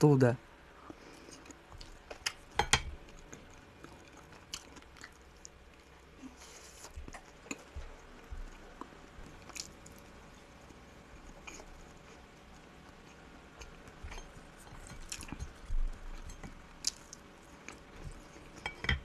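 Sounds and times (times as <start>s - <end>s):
person chewing food: 0.8s - 19.0s.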